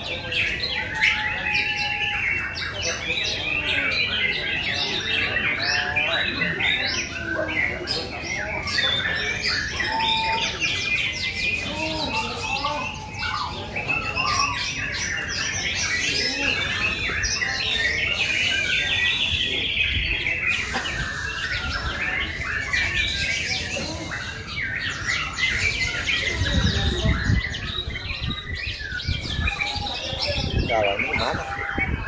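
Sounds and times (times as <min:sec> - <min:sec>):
many songbirds singing: 0:00.0 - 0:32.0.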